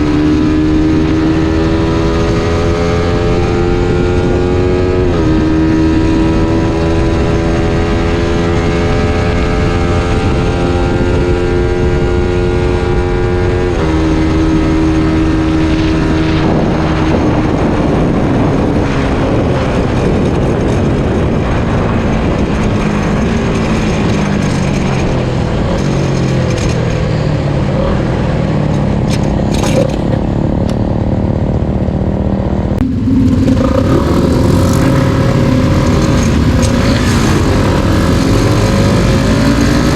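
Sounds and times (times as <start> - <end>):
motorcycle engine while riding: 0.0 - 39.9
rushing wind noise: 0.0 - 39.9.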